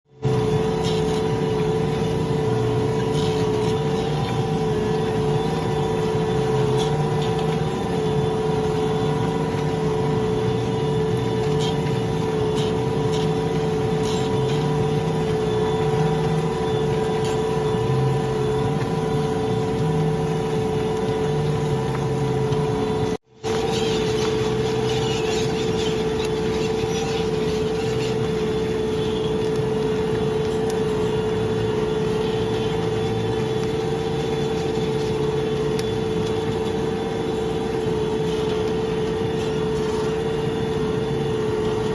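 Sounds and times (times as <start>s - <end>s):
tractor engine running under load: 0.1s - 41.9s.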